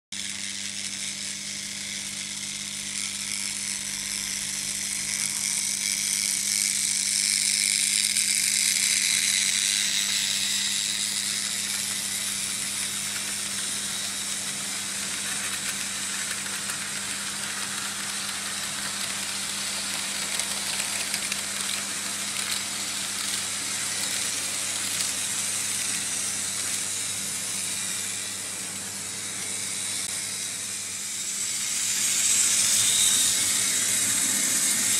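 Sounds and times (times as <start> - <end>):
electric hum: 0.2 - 34.9
model train wheels rattling on rails: 0.2 - 34.9.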